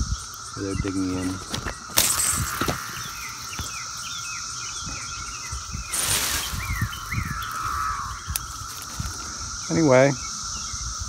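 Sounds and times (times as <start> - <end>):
bird chirping: 0.0 - 11.0
cicadas droning: 0.0 - 11.0
high steady hiss: 0.0 - 11.0.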